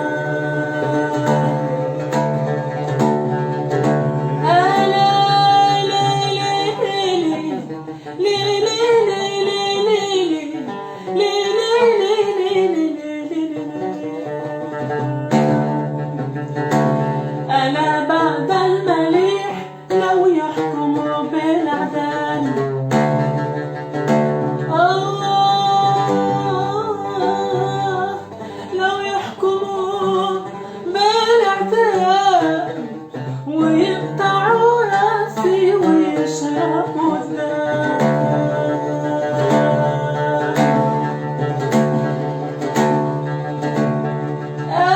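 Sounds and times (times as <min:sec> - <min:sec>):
plucked string accompaniment: 0:00.0 - 0:44.9
woman singing folk song: 0:00.0 - 0:44.9.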